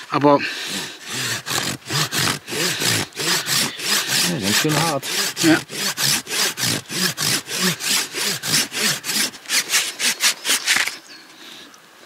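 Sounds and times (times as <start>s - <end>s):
hand saw cutting wood: 0.5s - 11.0s.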